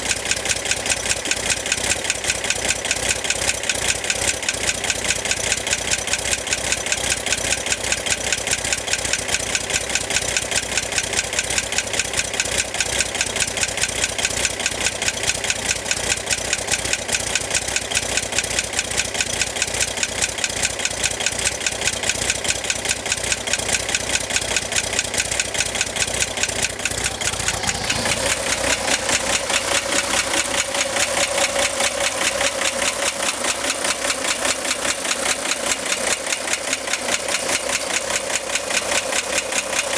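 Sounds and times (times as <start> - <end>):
engine idling with fast ticking: 0.0 - 39.9.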